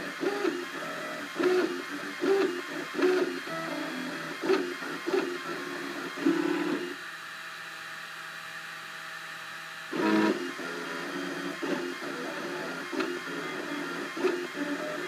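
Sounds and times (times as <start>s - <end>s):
stepper motors whining: 0.0s - 7.0s, 9.9s - 15.0s.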